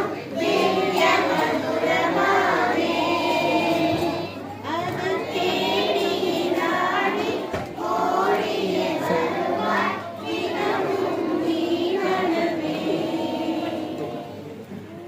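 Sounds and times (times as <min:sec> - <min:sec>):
children singing together: 0:00.0 - 0:14.7.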